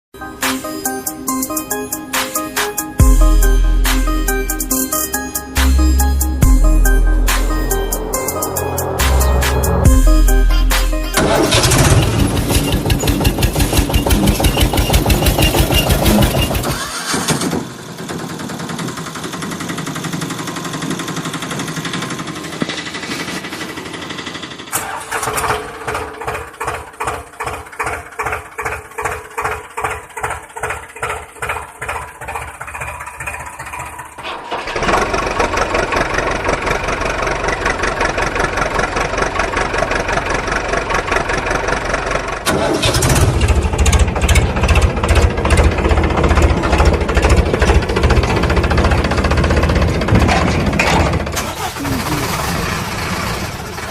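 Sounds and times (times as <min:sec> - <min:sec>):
vehicle engine running: 0:02.8 - 0:53.9.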